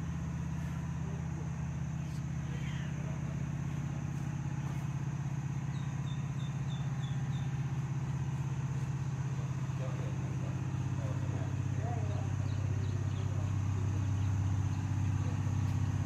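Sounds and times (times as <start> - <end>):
low pulsing motor hum: 0.0 - 16.0.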